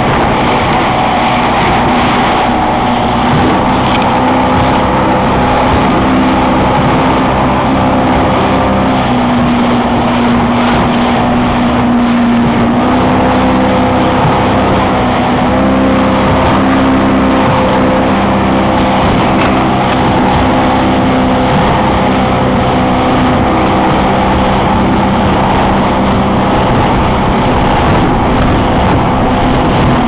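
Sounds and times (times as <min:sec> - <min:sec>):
motorboat engine running: 0:00.0 - 0:30.0
water rushing from wake: 0:00.0 - 0:30.0.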